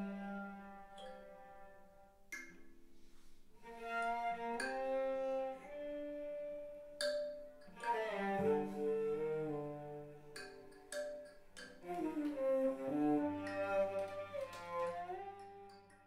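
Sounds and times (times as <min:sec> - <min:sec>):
bowed strings playing slow notes: 0:00.0 - 0:02.6, 0:03.6 - 0:16.0.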